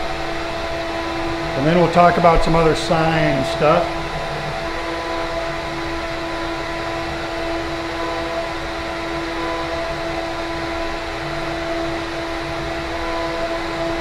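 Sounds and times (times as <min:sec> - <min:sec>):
low machine rumble: 0:00.0 - 0:14.0
router spindle whine: 0:00.0 - 0:14.0.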